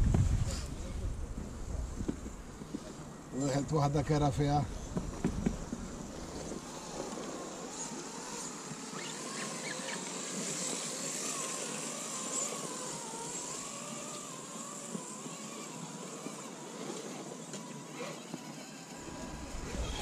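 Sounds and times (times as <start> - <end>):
electric motor and gearbox whining: 1.9 - 20.0.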